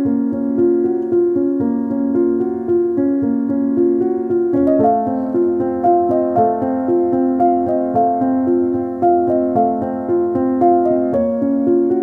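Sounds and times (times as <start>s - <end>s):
keyboard melody over held chords: 0.0s - 12.0s.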